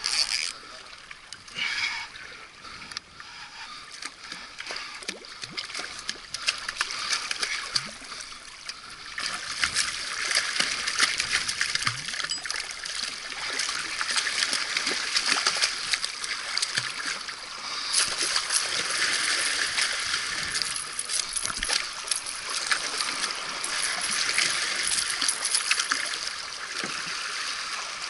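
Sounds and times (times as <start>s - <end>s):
water splashing against rocks: 3.3s - 28.0s.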